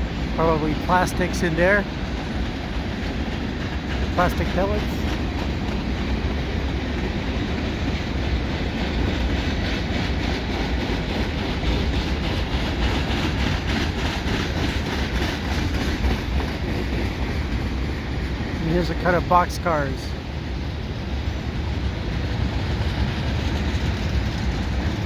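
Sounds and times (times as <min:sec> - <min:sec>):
wheels clacking over rail joints: 0:00.0 - 0:19.4, 0:20.2 - 0:25.0
freight train rumbling past: 0:00.0 - 0:25.0.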